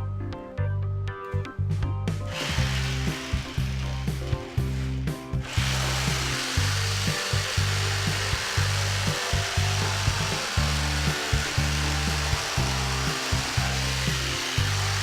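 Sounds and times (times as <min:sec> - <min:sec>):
music with heavy bass: 0:00.0 - 0:15.0
power tool hissing on wood: 0:02.3 - 0:15.0.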